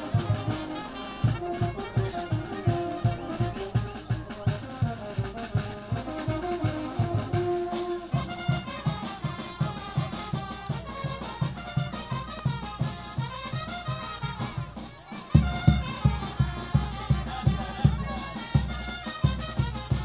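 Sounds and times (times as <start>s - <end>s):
brass band music: 0.0s - 20.0s.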